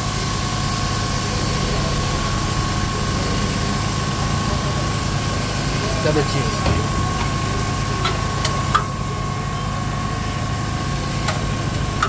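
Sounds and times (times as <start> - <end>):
machine hum with thin whine: 0.0 - 12.0.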